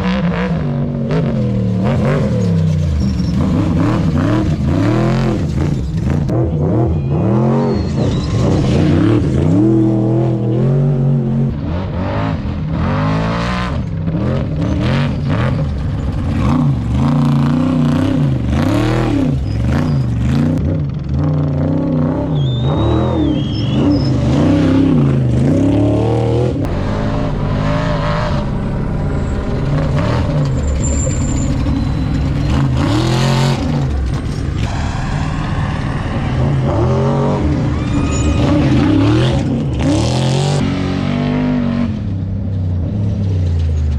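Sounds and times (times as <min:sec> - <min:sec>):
race truck engines revving: 0:00.0 - 0:43.9.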